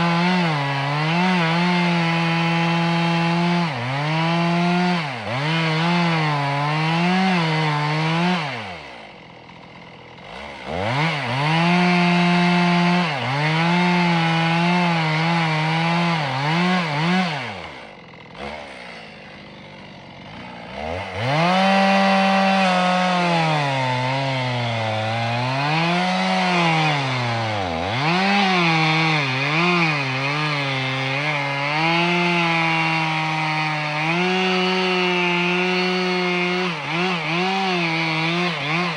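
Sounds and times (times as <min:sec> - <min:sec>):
chainsaw cutting tree: 0:00.0 - 0:38.9.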